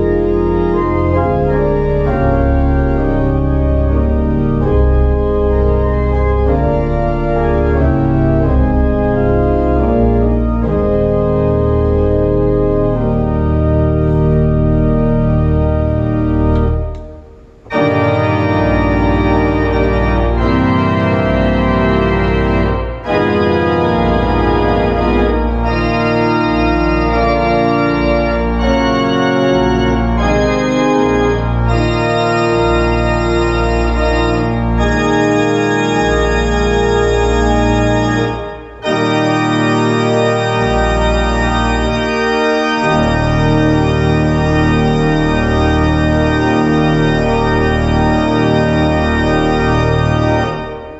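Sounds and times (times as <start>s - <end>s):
deep organ pedal bass: 0.0s - 50.9s
organ playing hymn chords: 0.0s - 50.9s.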